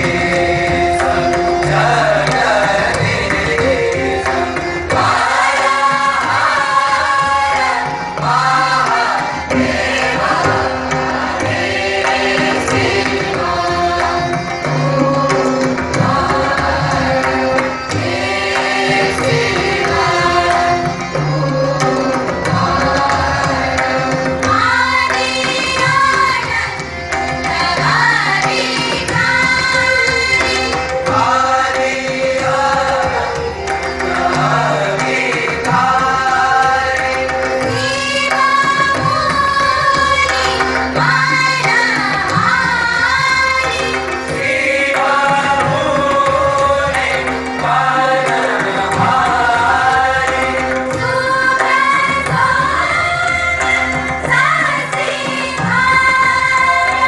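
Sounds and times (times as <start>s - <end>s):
chorus singing gliding phrases: 0.0s - 57.0s
tabla: 0.0s - 57.0s.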